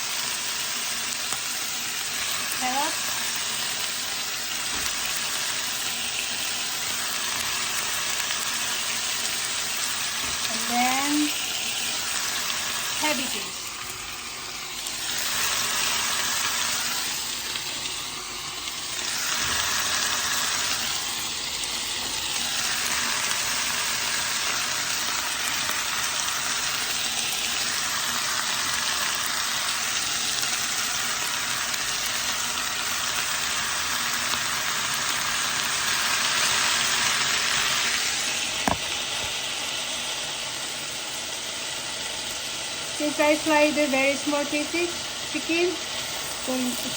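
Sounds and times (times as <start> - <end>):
food sizzling in a frying pan: 0.0 - 46.9.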